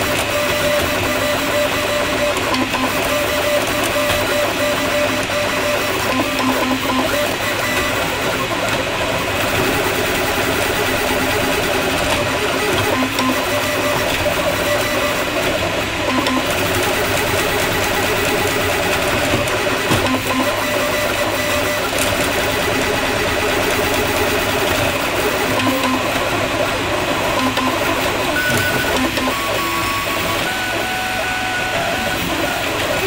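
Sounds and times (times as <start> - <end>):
stepper motors whining: 0.0 - 33.0.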